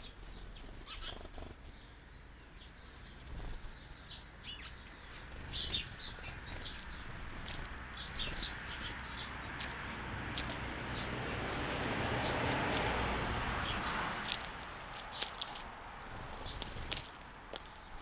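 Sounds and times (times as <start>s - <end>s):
small bird chirping: 0.0s - 12.5s, 13.6s - 18.0s.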